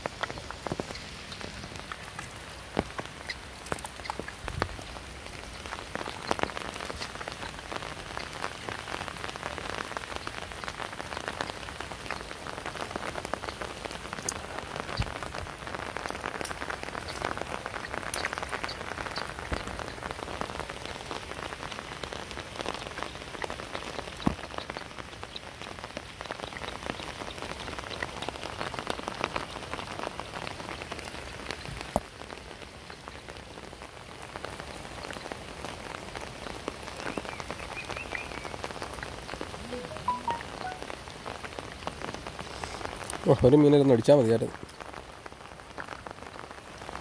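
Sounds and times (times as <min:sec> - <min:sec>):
heavy rain on river: 0:00.0 - 0:47.0.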